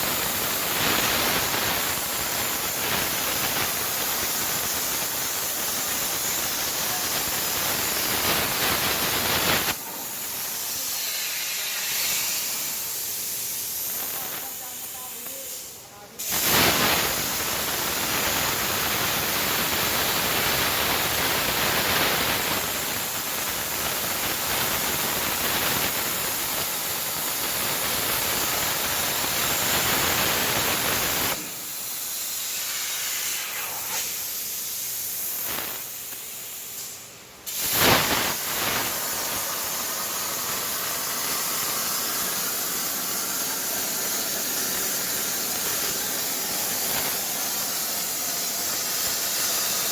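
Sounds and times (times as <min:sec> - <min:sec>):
plasma torch sharp burst: 0:00.0 - 0:15.6, 0:16.2 - 0:49.9
plasma torch hissing: 0:00.0 - 0:49.9.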